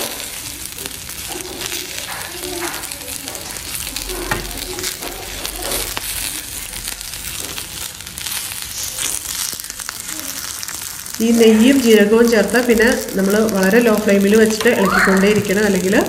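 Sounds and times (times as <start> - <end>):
food sizzling in oil: 0.0 - 16.0
spatula stirring and scraping pan: 0.0 - 16.0.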